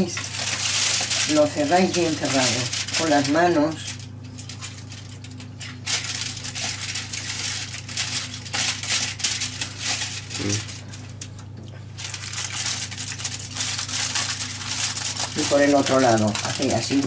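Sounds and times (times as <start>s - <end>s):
aluminium foil crinkling: 0.0s - 17.0s
low steady hum: 0.0s - 17.0s.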